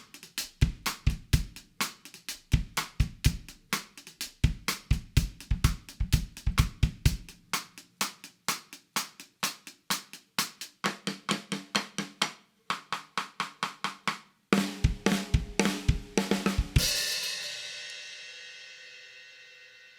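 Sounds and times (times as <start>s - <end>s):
snare drum strokes: 0.0s - 17.5s
drum kit fill: 0.0s - 19.9s.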